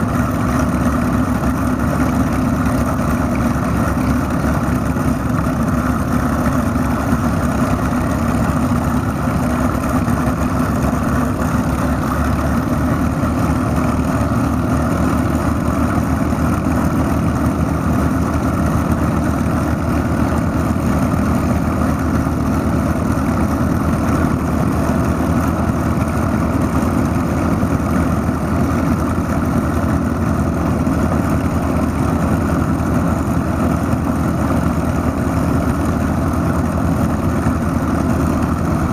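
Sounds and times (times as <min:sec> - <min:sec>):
propeller aircraft engines idling: 0:00.0 - 0:38.9.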